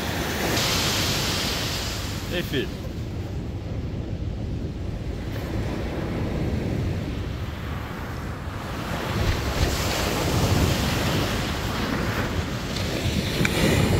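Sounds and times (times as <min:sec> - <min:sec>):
surf washing up beach: 0:00.0 - 0:13.9
wind buffeting microphone: 0:00.0 - 0:13.9.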